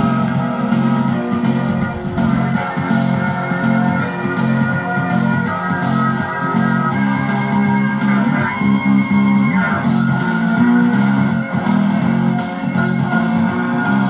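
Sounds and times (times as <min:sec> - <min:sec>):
guitar instrumental from cassette: 0:00.0 - 0:14.0.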